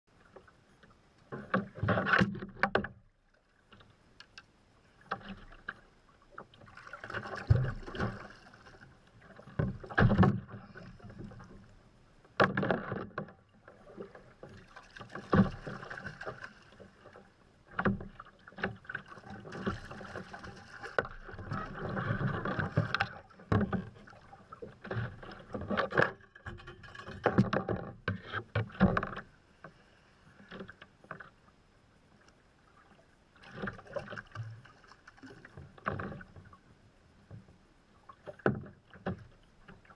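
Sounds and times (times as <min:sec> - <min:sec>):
water splashing around kayak: 0:00.1 - 0:39.9.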